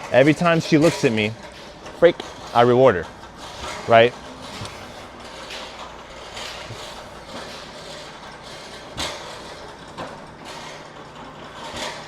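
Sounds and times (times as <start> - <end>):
cart rattling: 0.0 - 12.0
sharp clanks: 0.0 - 12.0.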